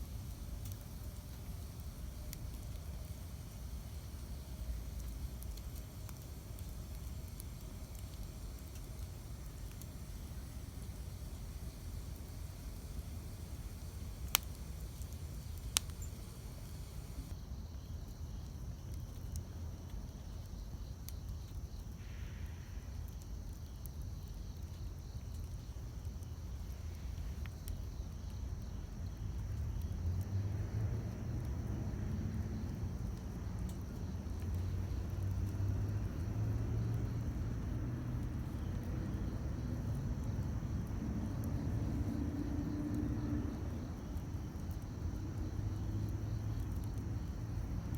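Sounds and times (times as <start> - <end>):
campfire crackling: 0.0 - 17.4, 18.8 - 47.9.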